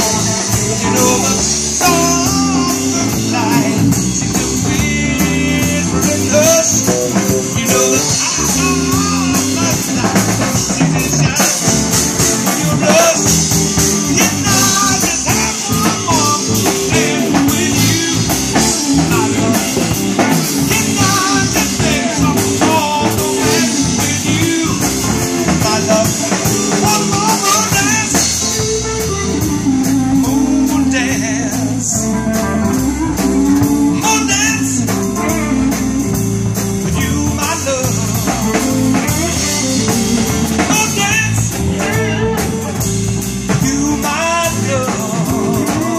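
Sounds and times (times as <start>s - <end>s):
bass guitar: 0.0s - 45.9s
drum kit: 0.0s - 45.9s
electric guitar: 0.0s - 45.9s
keyboard: 0.0s - 45.9s.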